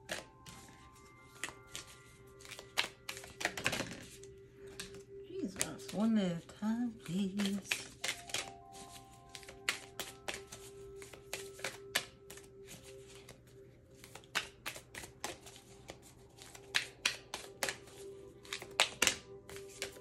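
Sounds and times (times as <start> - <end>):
playing cards being shuffled: 0.0 - 20.0
soft background music: 0.0 - 20.0.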